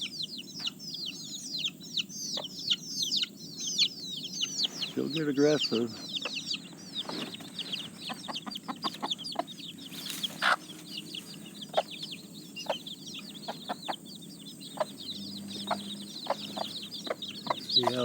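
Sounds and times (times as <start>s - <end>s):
chicks peeping: 0.0s - 18.0s
hen clucking: 0.0s - 18.0s.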